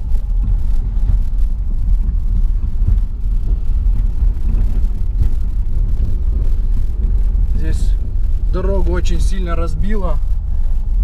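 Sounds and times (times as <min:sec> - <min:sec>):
car tyres rumbling on gravel: 0:00.0 - 0:11.0.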